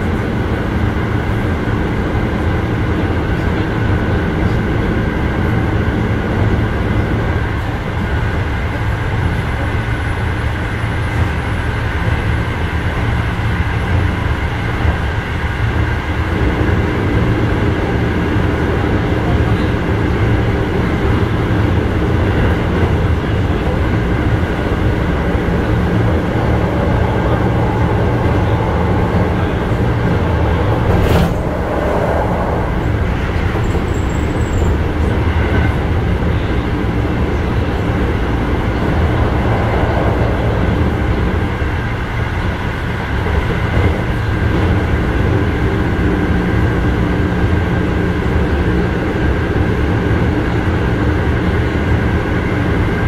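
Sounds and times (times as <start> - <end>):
wheels rumbling on rail: 0.0 - 53.0.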